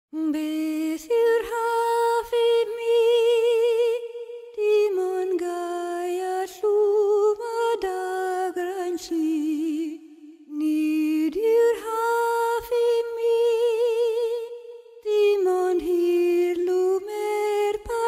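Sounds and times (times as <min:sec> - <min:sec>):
solo voice singing wordless melody: 0:00.1 - 0:18.0.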